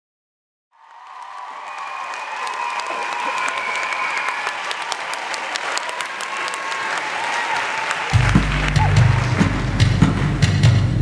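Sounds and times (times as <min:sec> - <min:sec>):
crowd cheering: 0:00.7 - 0:10.8
audience applauding: 0:00.8 - 0:10.6.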